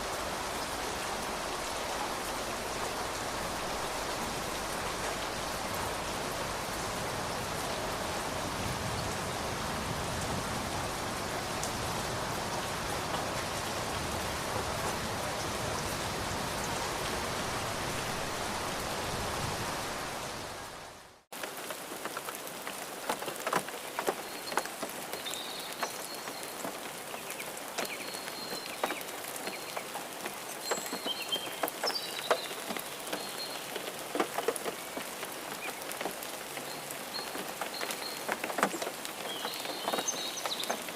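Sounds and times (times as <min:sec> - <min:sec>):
light rain with drips: 0:00.0 - 0:40.9
steady dense rainfall: 0:00.0 - 0:40.9.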